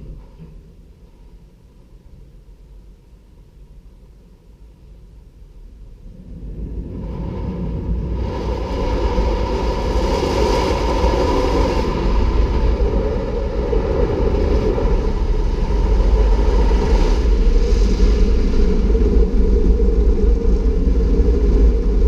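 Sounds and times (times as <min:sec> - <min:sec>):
deep rumble: 0:00.0 - 0:22.0.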